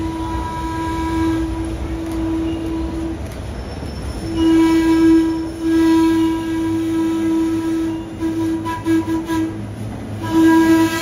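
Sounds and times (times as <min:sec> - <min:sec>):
train horn blast: 0:00.0 - 0:03.2, 0:04.2 - 0:11.0
train rumbling: 0:00.0 - 0:11.0.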